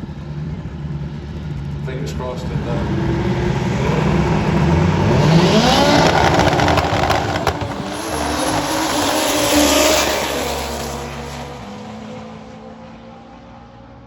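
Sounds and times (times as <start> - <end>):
motorcycle accelerating hard: 1.6 - 13.6.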